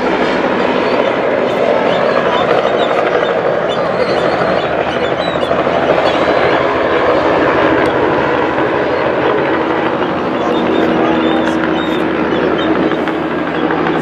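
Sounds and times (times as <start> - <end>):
helicopter rotor beating: 0.0 - 14.0.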